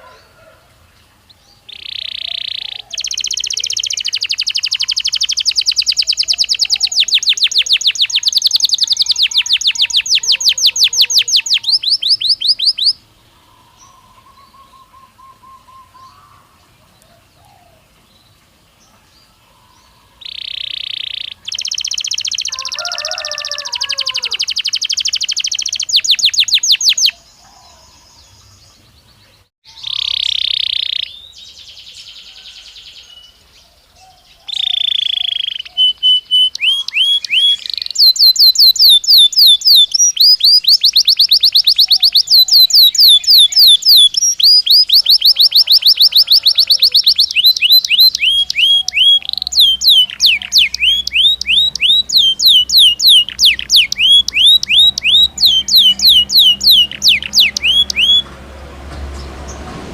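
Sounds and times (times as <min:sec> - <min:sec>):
canary singing trills: 0:00.0 - 0:58.4.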